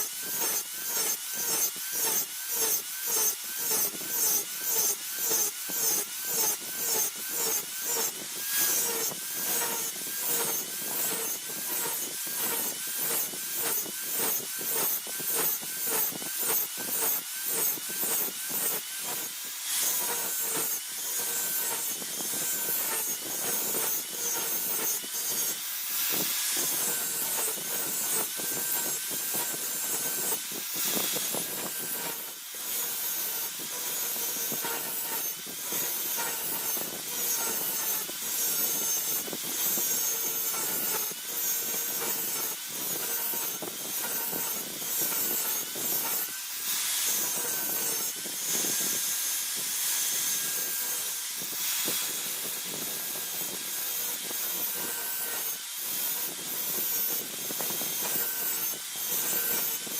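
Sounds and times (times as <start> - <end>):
hand tool scraping steel blade: 0.0 - 49.0, 49.9 - 59.9.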